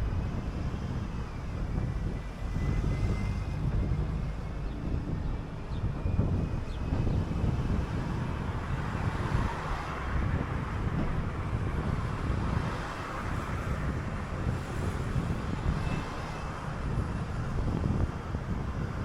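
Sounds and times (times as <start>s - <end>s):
bus engine and road rumble: 0.0s - 19.0s
wind noise on microphone: 0.0s - 19.0s.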